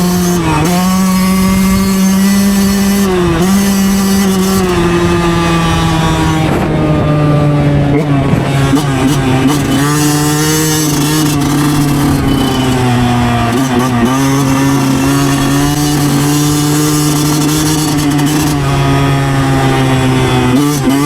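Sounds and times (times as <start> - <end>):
two-stroke engine running: 0.0 - 21.0.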